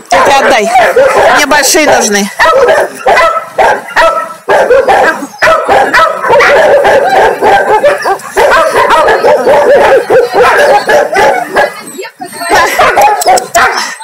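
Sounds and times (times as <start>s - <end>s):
dogs barking: 0.0s - 14.0s.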